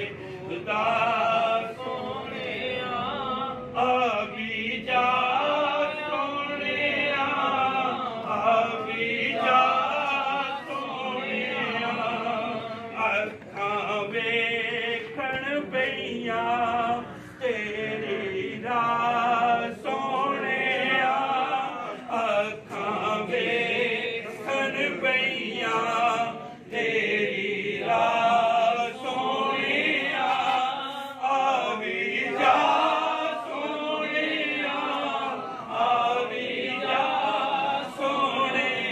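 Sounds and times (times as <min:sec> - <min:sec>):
men chanting unaccompanied: 0:00.0 - 0:38.9.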